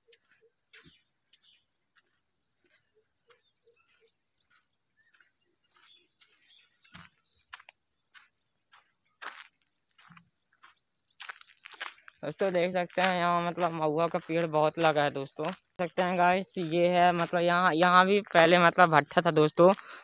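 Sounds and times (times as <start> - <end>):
faint ticks and rustles: 0.0 - 20.0
insects droning: 0.0 - 20.0.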